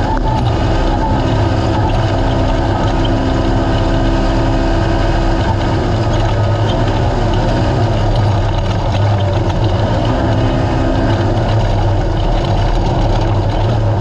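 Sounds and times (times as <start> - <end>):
engine running with loud drone: 0.0 - 14.0.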